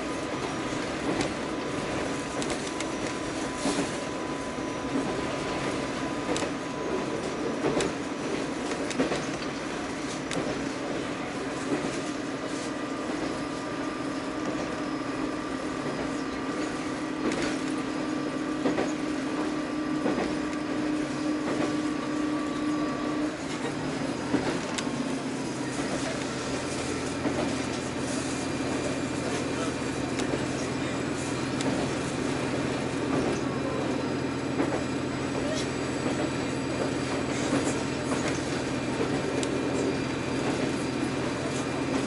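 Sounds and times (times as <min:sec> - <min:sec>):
railcar engine drone: 0:00.0 - 0:42.0.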